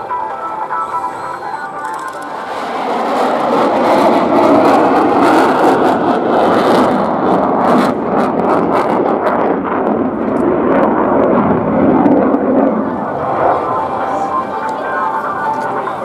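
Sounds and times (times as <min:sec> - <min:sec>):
jet aircraft engine noise: 0:00.0 - 0:16.0.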